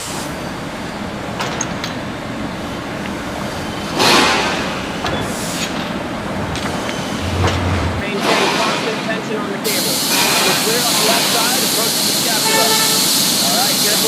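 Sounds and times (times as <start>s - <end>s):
steady machinery noise: 0.0s - 14.0s.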